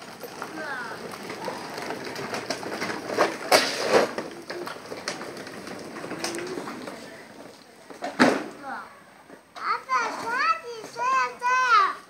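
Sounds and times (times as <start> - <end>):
plastic wheels rattling on concrete: 0.0 - 12.0.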